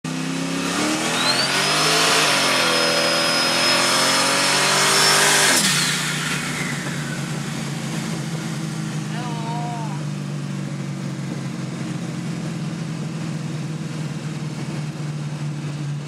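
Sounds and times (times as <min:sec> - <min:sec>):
car engine revving: 0:00.1 - 0:16.0
high turbo whine: 0:00.1 - 0:16.0.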